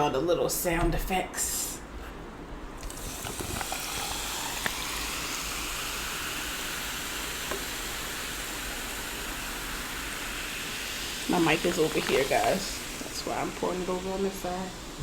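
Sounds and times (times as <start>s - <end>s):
sparkling water fizzing in a cup: 2.8s - 15.0s.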